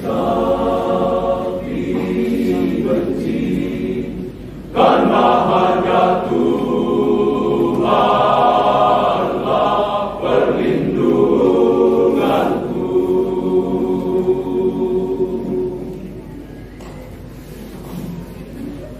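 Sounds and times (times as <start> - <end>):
men's choir singing: 0.0 - 16.2.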